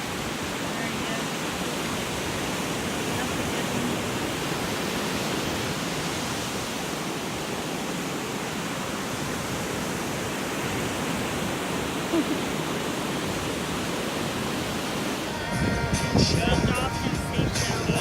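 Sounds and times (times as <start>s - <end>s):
ocean surf on a beach: 0.0s - 18.0s.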